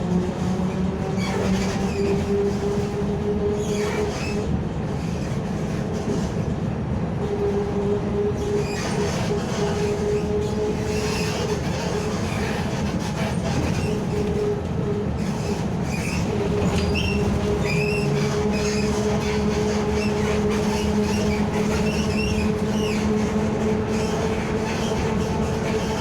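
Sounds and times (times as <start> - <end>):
vehicle creaking squeaks: 1.0 - 3.0, 3.6 - 6.4, 8.4 - 26.0.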